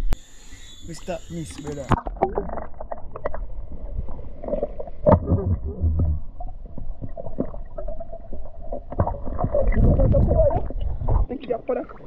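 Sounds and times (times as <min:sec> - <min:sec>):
underwater rumbling and sloshing: 0:01.8 - 0:12.0.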